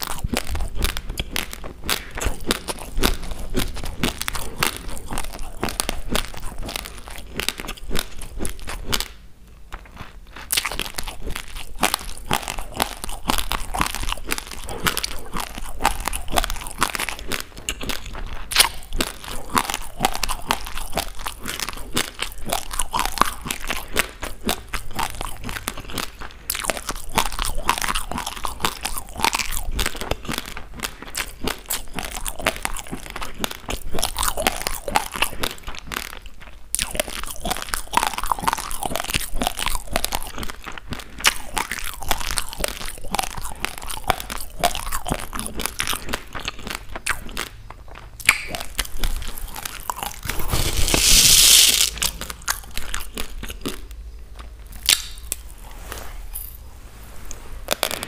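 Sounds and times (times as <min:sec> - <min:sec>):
crunchy chewing of rice grains: 0:00.0 - 0:56.6, 0:57.2 - 0:58.0.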